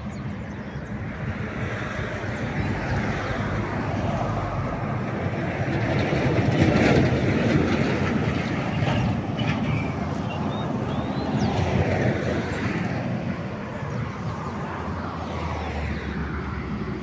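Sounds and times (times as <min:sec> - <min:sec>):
vehicle road noise rumble: 0:00.0 - 0:17.0.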